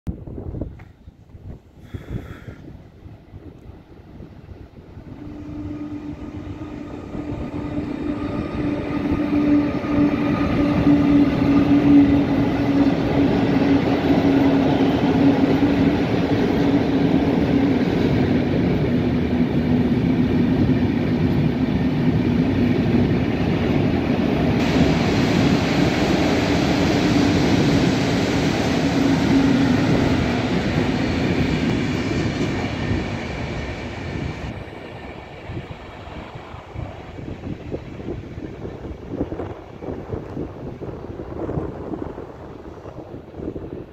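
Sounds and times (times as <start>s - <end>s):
train wheels rumbling on rails: 0.1s - 43.9s.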